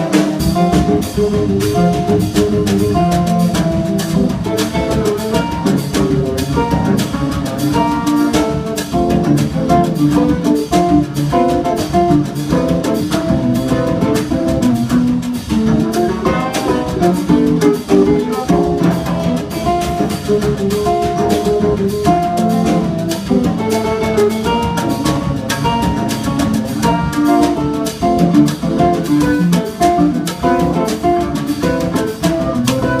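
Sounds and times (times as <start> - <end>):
cello melody: 0.0 - 33.0
drum strokes: 0.0 - 33.0
guitar chords: 0.0 - 33.0.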